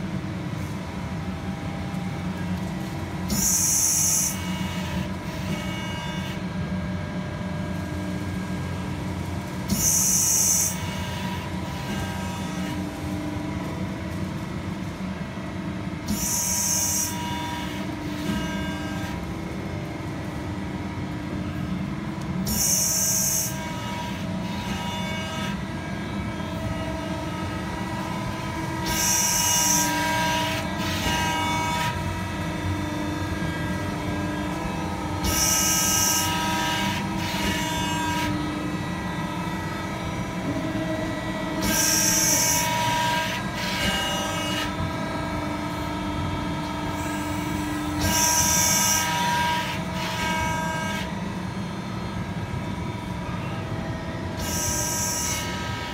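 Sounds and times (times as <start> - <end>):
hydraulic hum and whine: 0.0 - 55.9.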